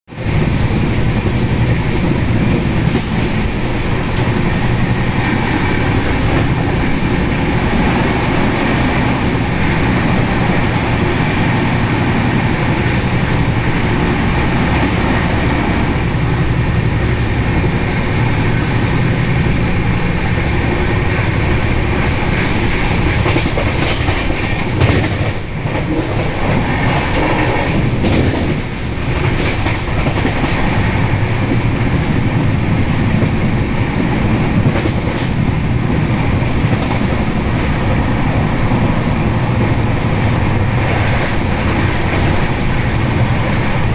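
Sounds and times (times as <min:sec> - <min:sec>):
train wheels rumbling on rail: 0:00.1 - 0:43.9.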